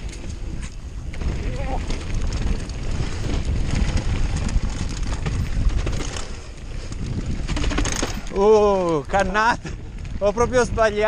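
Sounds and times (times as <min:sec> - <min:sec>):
bike rattling and knocking: 0:00.0 - 0:11.0
bike tyres rolling over dirt: 0:00.0 - 0:11.0
wind rumble on microphone: 0:00.0 - 0:11.0.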